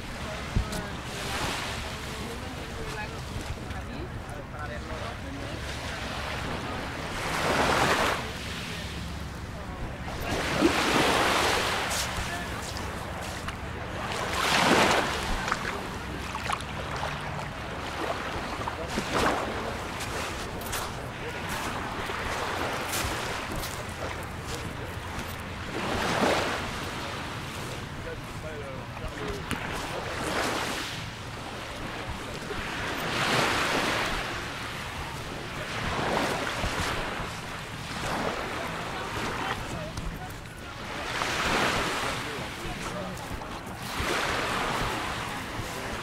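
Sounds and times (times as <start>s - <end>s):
waves washing on pebbly shore: 0.0s - 3.8s, 5.6s - 9.1s, 10.0s - 27.9s, 29.1s - 46.0s.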